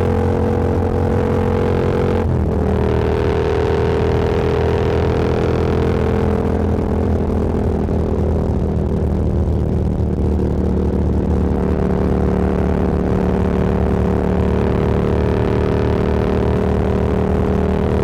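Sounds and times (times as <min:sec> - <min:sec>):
motorcycle engine cruising: 0:00.0 - 0:18.0.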